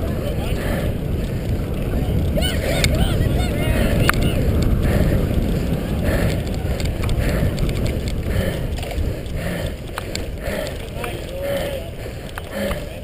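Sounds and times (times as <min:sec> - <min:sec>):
bike rumbling and rattling: 0:00.0 - 0:13.0
wind buffeting microphone: 0:00.0 - 0:13.0
scattered clicks: 0:00.1 - 0:13.0.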